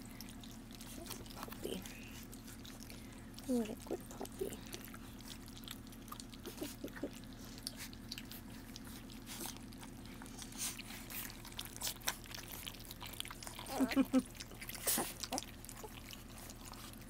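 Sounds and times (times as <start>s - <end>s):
puppies licking wet food: 0.0s - 17.0s.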